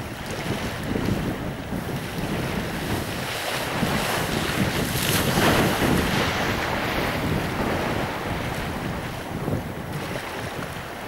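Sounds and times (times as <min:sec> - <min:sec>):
small waves breaking on sand: 0:00.0 - 0:11.0
wind buffeting microphone: 0:00.0 - 0:11.0.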